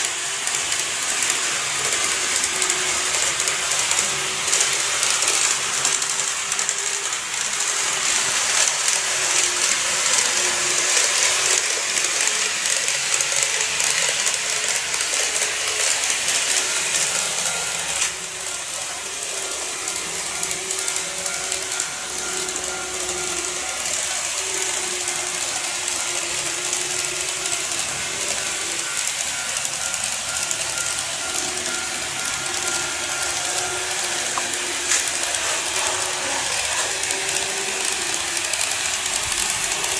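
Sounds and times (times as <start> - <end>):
model train wheels clattering: 0.0 - 39.9
thin motor whine: 0.0 - 39.9.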